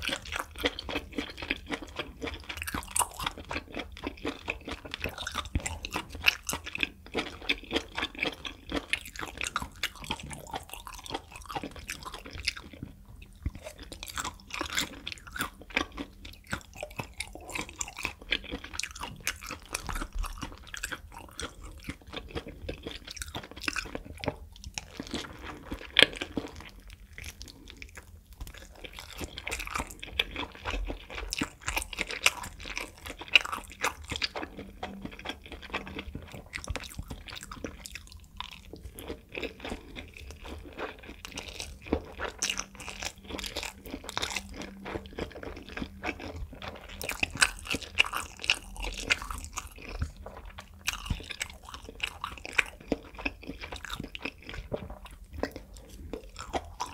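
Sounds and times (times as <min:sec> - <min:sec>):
crunchy food chewing: 0:00.0 - 0:56.9.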